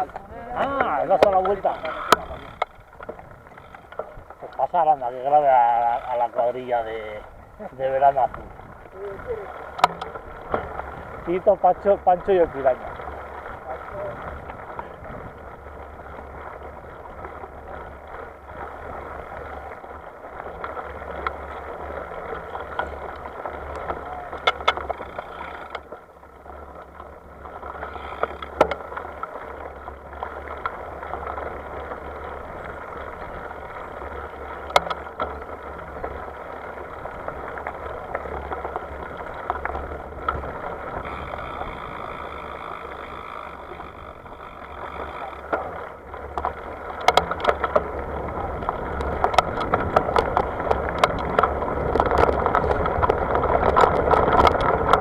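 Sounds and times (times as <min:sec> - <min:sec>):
sharp rattles and clicks: 0:00.0 - 0:55.0
wind and road noise: 0:00.0 - 0:55.0.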